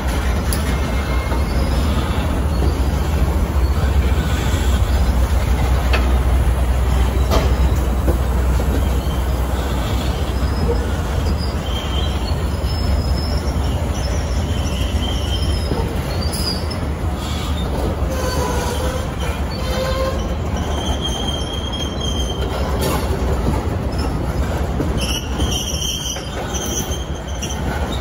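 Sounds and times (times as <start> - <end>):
steel wheels rumbling on rails: 0.0 - 28.0
faint high wheel squeals: 0.4 - 28.0.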